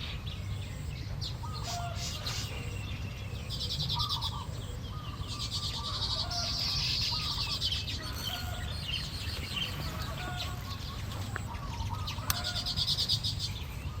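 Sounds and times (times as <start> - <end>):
birds chattering buzzy trills: 0.0 - 14.0.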